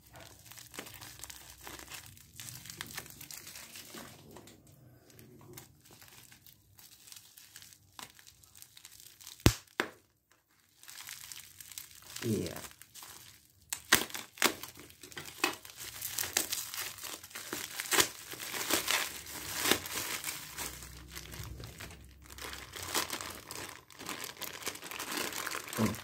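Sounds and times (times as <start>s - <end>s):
bubble wrap and plastic crinkling: 0.0s - 26.0s.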